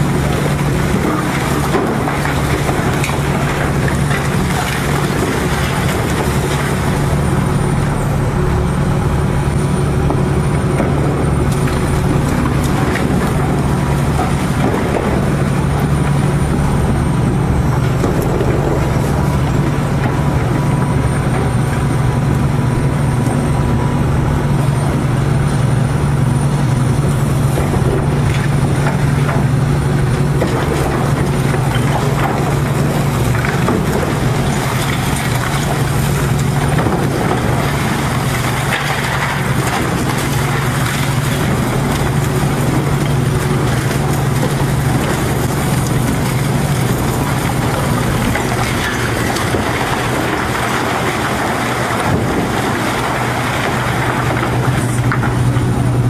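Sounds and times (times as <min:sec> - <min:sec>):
concrete crunching and debris falling: 0:00.0 - 0:56.0
excavator diesel engine running: 0:00.0 - 0:56.0.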